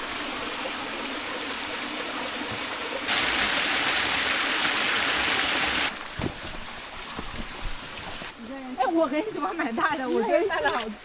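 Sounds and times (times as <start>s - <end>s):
mountain stream rushing: 0.0s - 9.5s.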